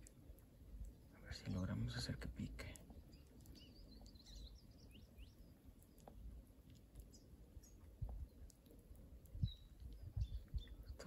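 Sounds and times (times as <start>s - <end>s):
faint low rumble: 0.0s - 11.0s
faint bird chirps: 0.8s - 6.2s, 7.0s - 11.0s.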